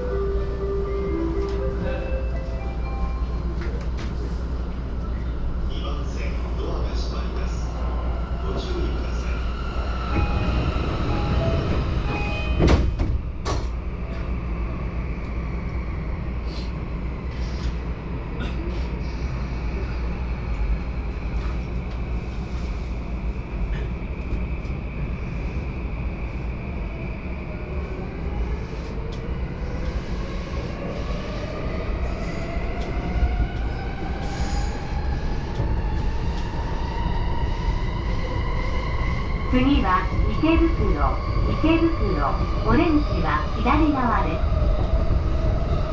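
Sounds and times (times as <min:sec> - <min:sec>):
train rumbling: 0:00.0 - 0:45.9.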